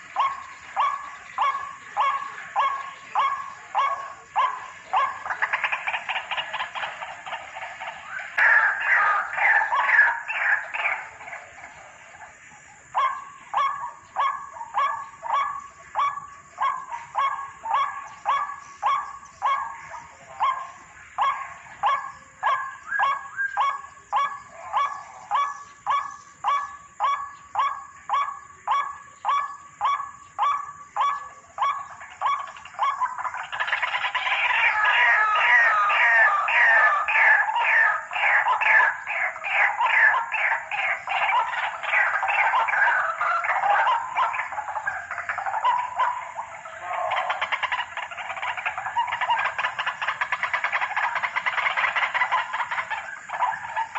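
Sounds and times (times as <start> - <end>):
waterhen harsh calls: 0.0 - 53.9.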